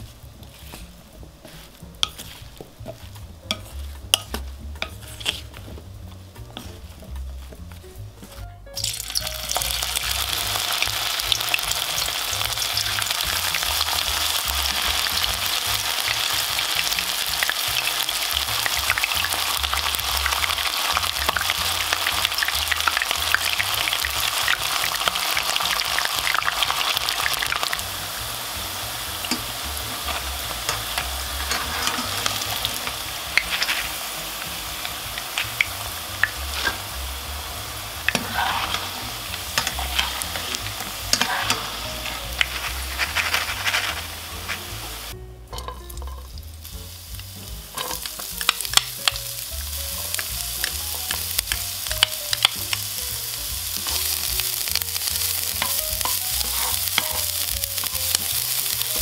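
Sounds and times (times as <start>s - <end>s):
food frying in hot oil: 0.0s - 59.0s
oil popping: 0.0s - 59.0s.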